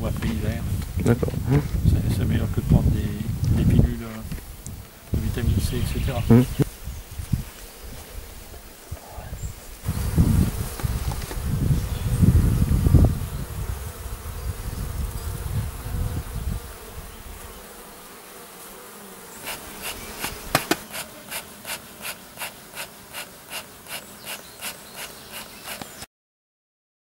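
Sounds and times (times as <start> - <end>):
honeybees buzzing: 0.1 - 26.1.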